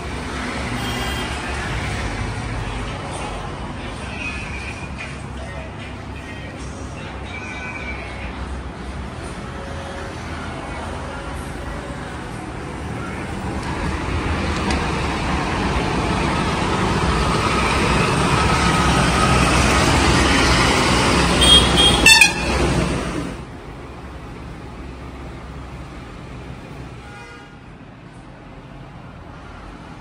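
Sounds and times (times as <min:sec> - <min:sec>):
cars and motorbikes passing: 0:00.0 - 0:30.0.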